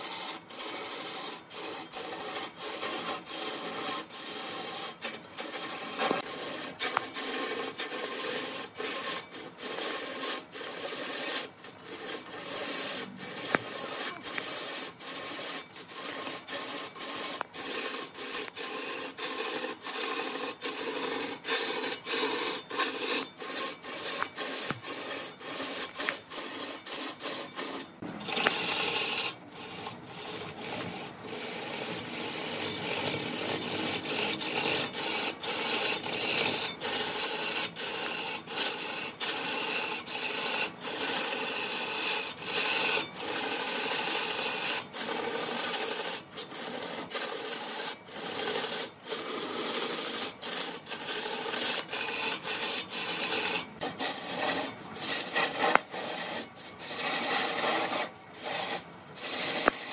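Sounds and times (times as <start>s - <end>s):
tool scraping wood on lathe: 0.0s - 59.9s.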